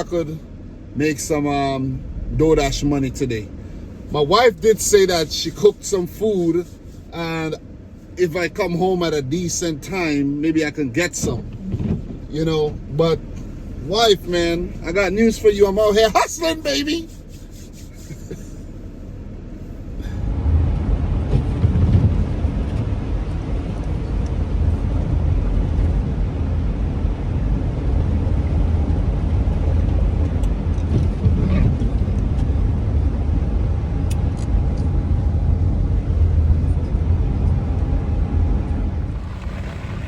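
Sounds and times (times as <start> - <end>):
road and engine rumble in vehicle: 0.0 - 40.0.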